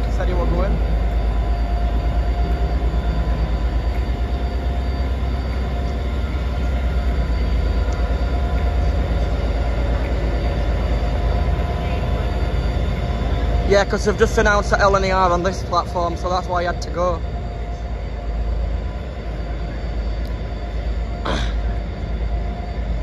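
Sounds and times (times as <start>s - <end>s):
steady humming tones: 0.0s - 23.0s
train rumbling: 0.0s - 23.0s.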